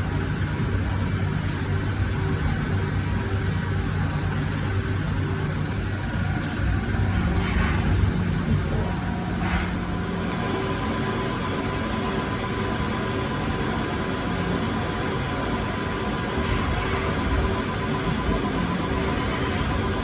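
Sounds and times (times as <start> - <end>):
lathe mechanical hum: 0.0 - 20.0.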